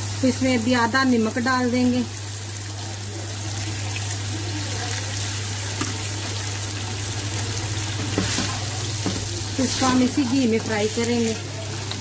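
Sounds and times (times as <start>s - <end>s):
chicken sizzling in ghee: 0.0s - 12.0s.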